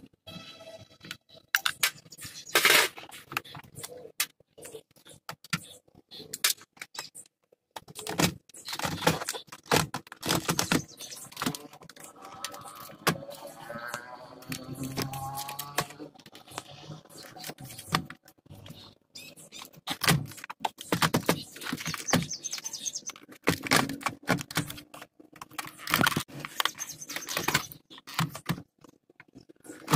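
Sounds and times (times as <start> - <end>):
plastic clicks and rattles: 1.0 - 18.8, 19.5 - 29.9.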